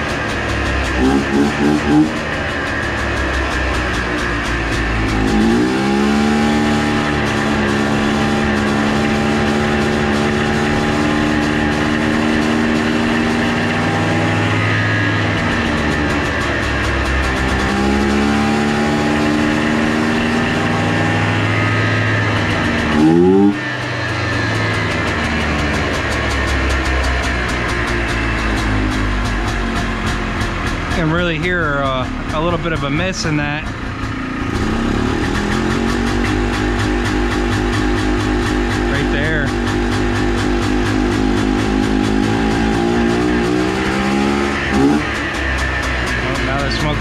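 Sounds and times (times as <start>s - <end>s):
two-stroke engine revving: 0.0s - 47.0s.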